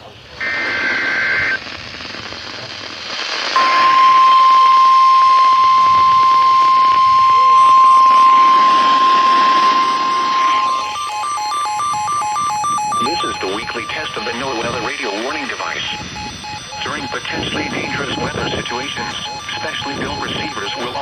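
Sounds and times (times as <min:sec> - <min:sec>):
radio static: 0:00.0 - 0:21.0
faint beeping: 0:03.6 - 0:21.0
steady warning alarm tone: 0:03.6 - 0:21.0
warbling data burst: 0:03.6 - 0:21.0.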